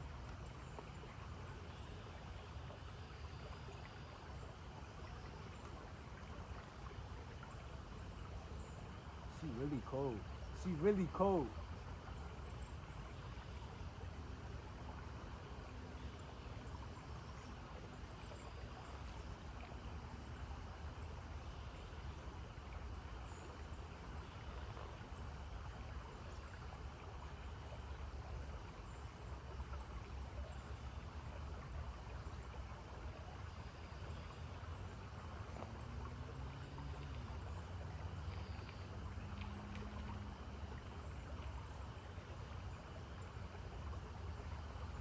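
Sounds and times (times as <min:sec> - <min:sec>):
stream flowing: 0:00.0 - 0:45.0.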